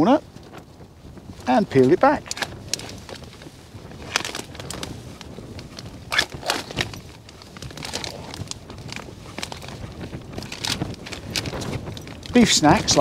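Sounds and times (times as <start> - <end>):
plastic bag and foil crinkling: 1.7 - 13.0.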